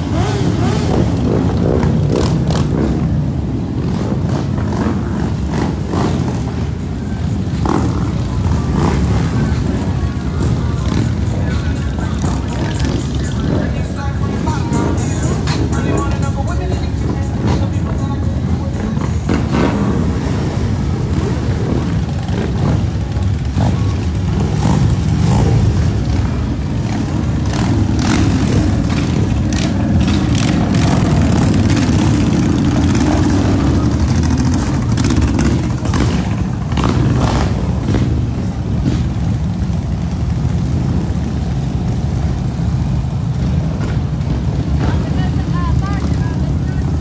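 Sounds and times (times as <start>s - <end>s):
motorcycle engines passing: 0.0s - 47.0s.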